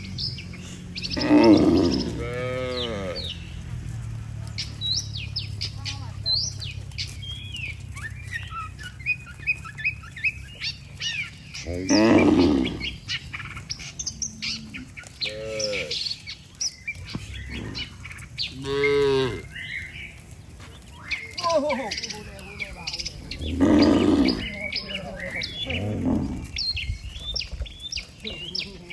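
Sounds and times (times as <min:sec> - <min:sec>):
cattle mooing: 0:00.0 - 0:16.2, 0:17.1 - 0:19.8, 0:21.4 - 0:26.8
birds chirping: 0:00.0 - 0:28.9.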